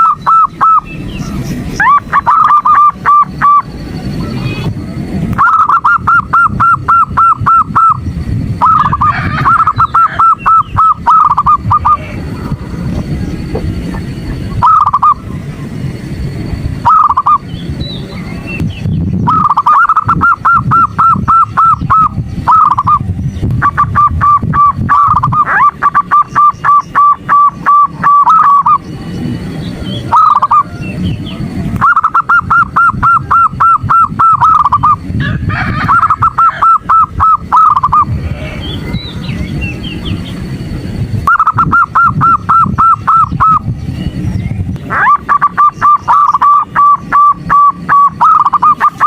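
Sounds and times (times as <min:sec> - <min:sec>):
dove calling: 0:00.0 - 0:49.0
steady low rumble: 0:00.0 - 0:49.0.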